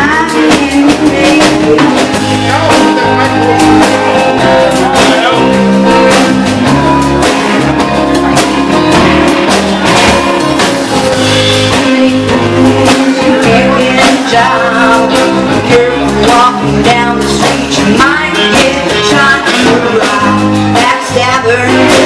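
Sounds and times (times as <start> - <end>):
person singing: 0.0 - 10.4, 11.1 - 22.0
band playing guitar bass and drums: 0.0 - 22.0.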